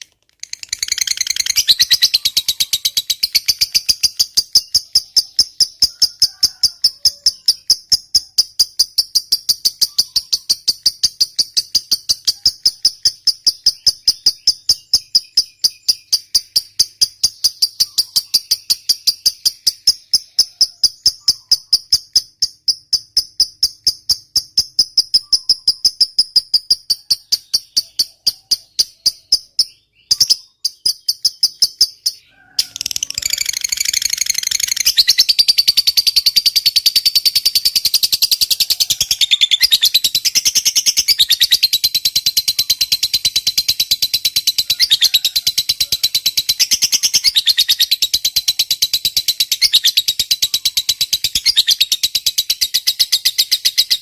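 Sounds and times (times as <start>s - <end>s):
lovebird chattering: 0.0s - 54.0s.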